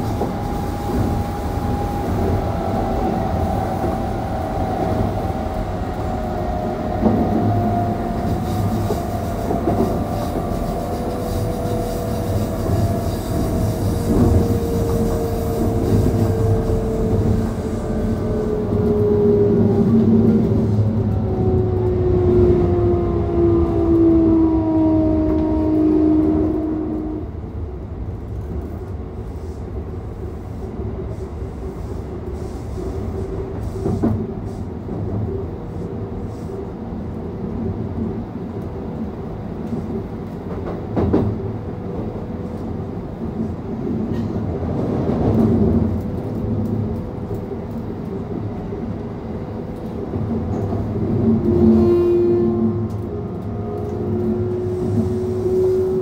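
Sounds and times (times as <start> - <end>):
electric train inverter whine: 0.0 - 56.0
train wheel and rail rumble: 0.0 - 56.0.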